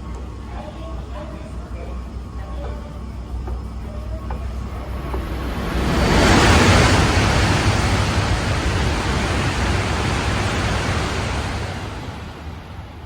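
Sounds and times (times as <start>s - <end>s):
train passing with rushing roar: 0.0s - 13.0s.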